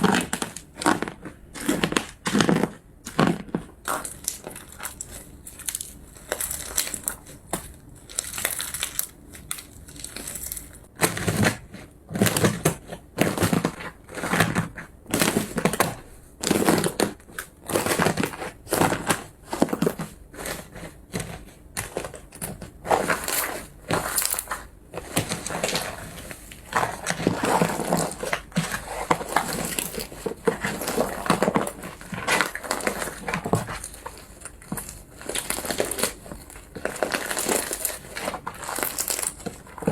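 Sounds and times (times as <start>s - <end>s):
slime squelching crunchily: 0.0s - 39.9s.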